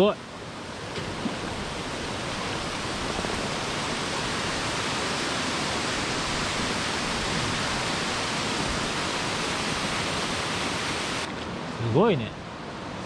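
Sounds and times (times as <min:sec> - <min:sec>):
river rushing: 0:00.2 - 0:13.0.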